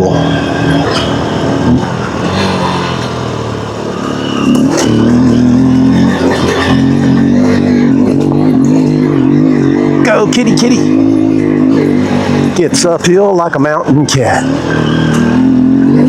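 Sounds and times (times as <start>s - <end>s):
dirt bike engine climbing: 0.0s - 16.0s.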